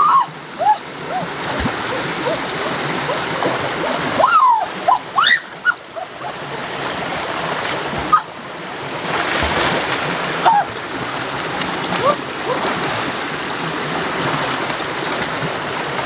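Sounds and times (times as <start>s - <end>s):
stream running over rocks: 0.0s - 16.0s
person wading and splashing: 0.8s - 15.4s.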